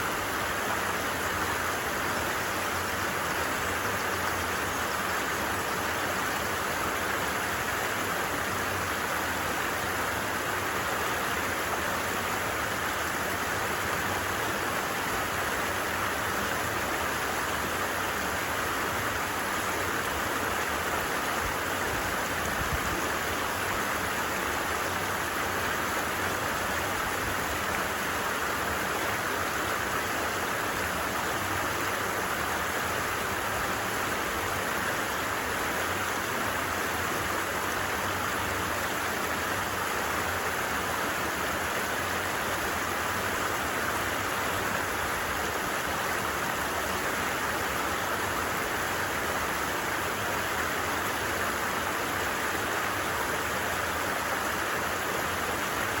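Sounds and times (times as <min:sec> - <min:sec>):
stream rushing and babbling: 0:00.0 - 0:56.0.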